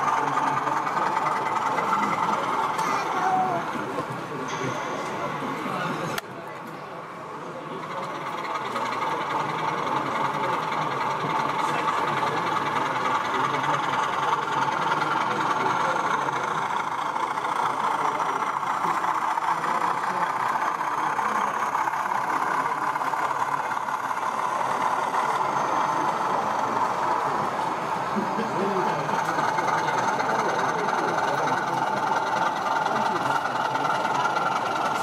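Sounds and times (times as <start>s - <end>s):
model locomotive running: 0.0s - 35.0s
murmur of crowd in hall: 0.0s - 35.0s.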